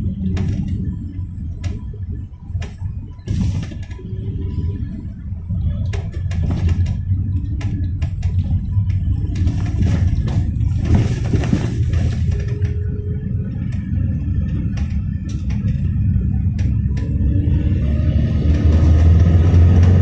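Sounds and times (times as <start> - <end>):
engine and road drone: 0.0 - 20.0
rattles and clicks of vehicle body: 0.0 - 20.0.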